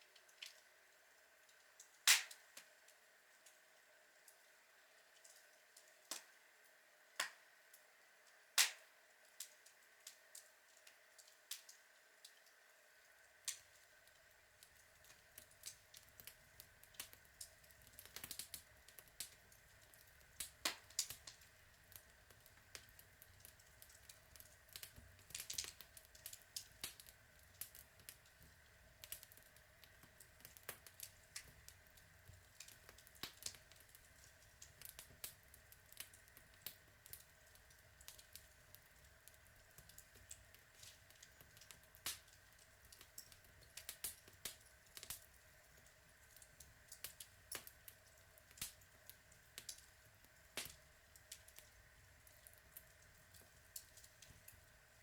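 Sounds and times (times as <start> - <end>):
wood fire crackling and popping: 0.0 - 0.7, 1.5 - 3.6, 4.2 - 6.4, 7.1 - 55.0
faint steady hiss: 0.0 - 55.0.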